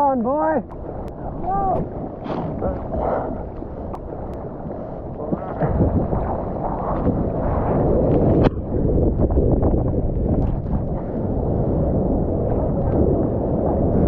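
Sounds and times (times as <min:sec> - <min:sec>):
ocean water sloshing and splashing: 0:00.0 - 0:14.0
wind buffeting microphone: 0:00.0 - 0:14.0.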